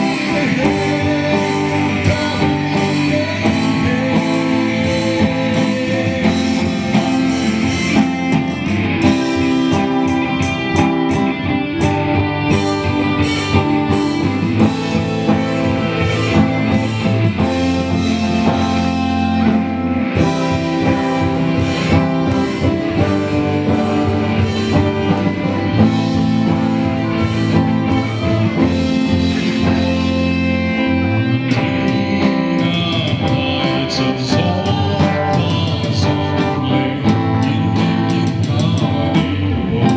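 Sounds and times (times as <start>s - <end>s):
electric guitar: 0.0s - 39.9s
live band playing: 0.0s - 39.9s.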